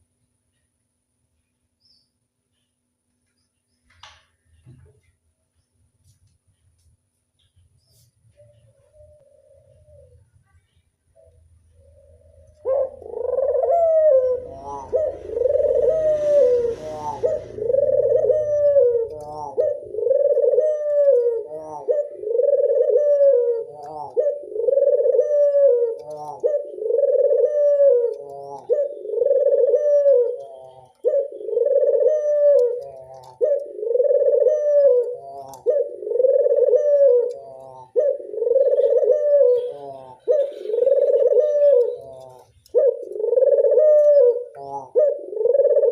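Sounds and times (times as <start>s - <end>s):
dove cooing: 8.3s - 10.5s, 11.2s - 45.9s.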